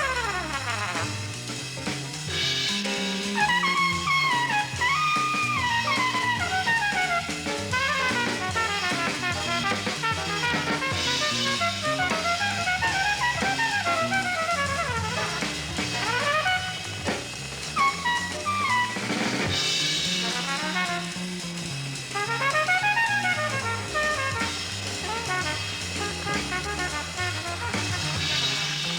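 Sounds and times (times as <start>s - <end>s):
saxophone: 0.0s - 1.5s, 3.3s - 28.9s
drum kit with cymbals: 0.0s - 28.9s.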